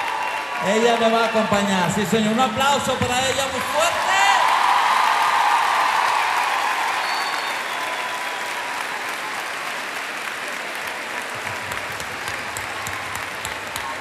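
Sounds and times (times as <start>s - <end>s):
concert audience applauding: 0.0s - 14.0s.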